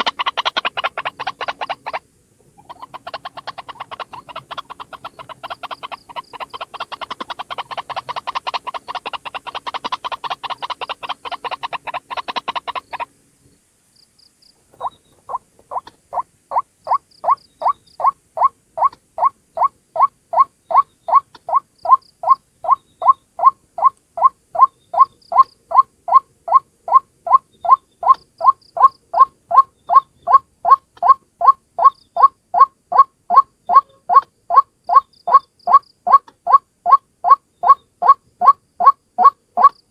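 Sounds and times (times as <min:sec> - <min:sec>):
bird croaking calls: 0:00.0 - 0:13.1, 0:14.7 - 0:39.9
bird kwak notes: 0:00.0 - 0:13.1, 0:14.7 - 0:39.9.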